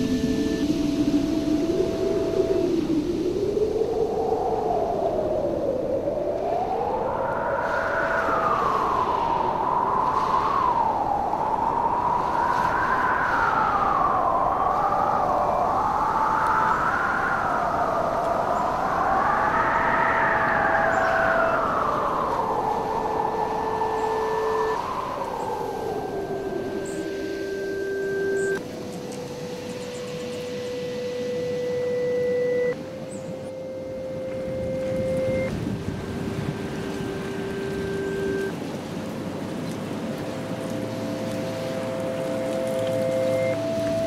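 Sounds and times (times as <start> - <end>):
steady whistling tone: 0.0 - 38.6, 40.3 - 44.0
blizzard wind howling: 0.0 - 44.0.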